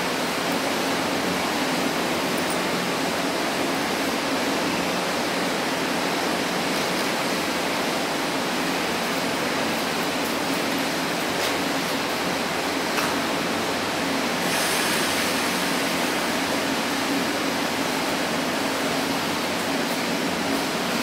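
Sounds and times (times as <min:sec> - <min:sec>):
locomotive cooling blowers rushing: 0:00.0 - 0:21.0.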